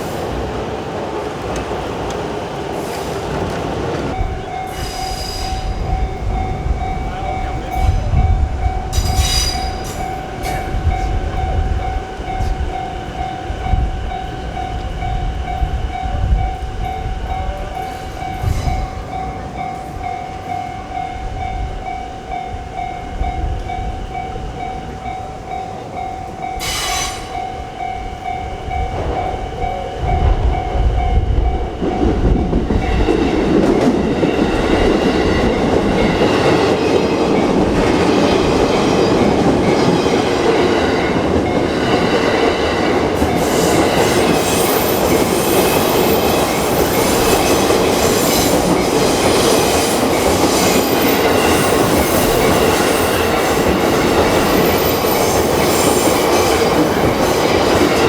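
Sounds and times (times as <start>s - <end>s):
passing train rumble: 0.0s - 58.0s
railway crossing bell ringing: 4.1s - 58.0s.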